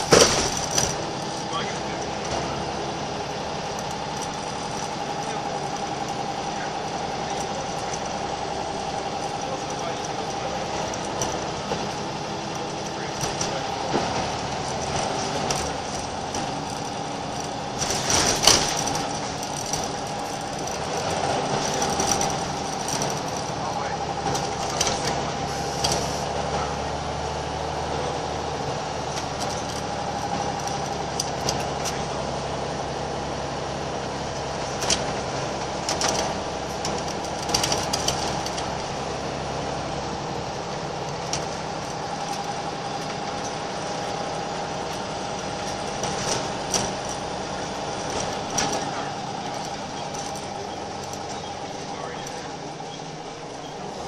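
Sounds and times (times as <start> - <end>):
bus diesel engine running: 0.0 - 54.0
bus interior rattles and clicks: 0.0 - 54.0.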